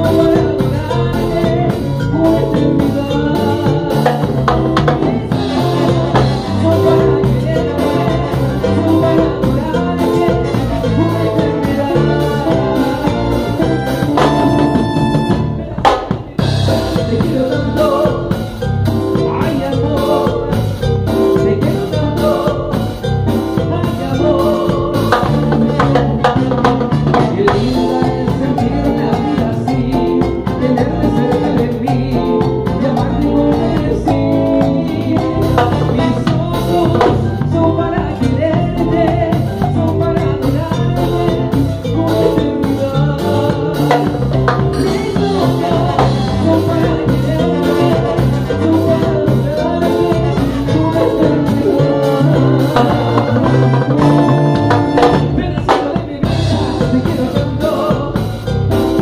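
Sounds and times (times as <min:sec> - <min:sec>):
live salsa band playing: 0:00.0 - 0:59.0.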